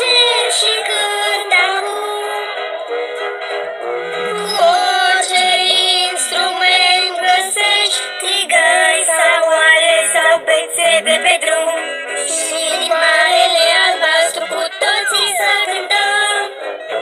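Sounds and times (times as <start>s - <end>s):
high-pitched voices singing: 0.0s - 2.9s, 4.2s - 16.6s
musical accompaniment: 0.0s - 8.4s, 10.6s - 17.0s.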